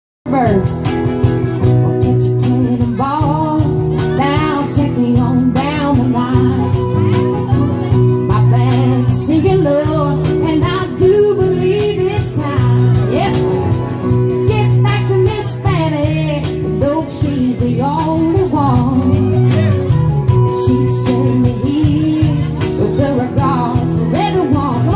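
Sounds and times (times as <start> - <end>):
strummed guitar: 0.3 - 24.9
voices singing: 2.0 - 24.9.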